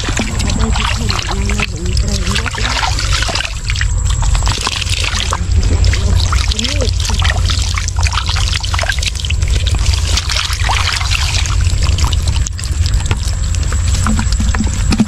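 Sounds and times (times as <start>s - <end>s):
low rumble: 0.0s - 15.0s
water splashing and trickling: 0.0s - 15.0s.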